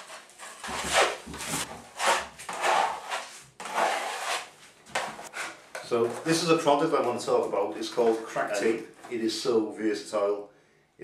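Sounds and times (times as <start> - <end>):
drywall knife scraping compound: 0.0 - 9.2.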